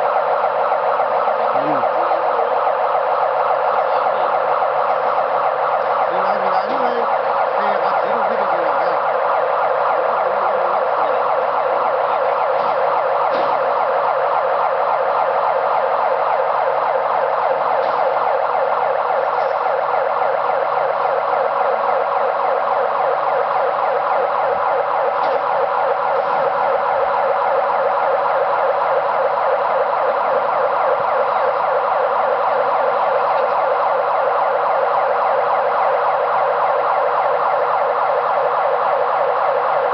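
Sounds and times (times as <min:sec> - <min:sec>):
warbling electronic warning siren: 0:00.0 - 0:39.9.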